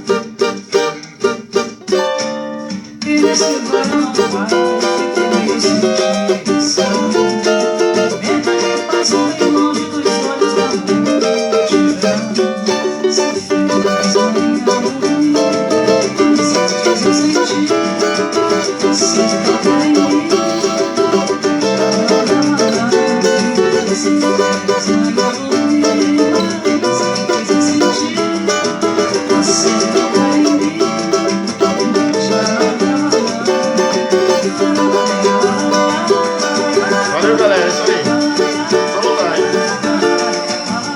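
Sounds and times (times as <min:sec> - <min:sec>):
small guitar strummed: 0:00.0 - 0:40.9.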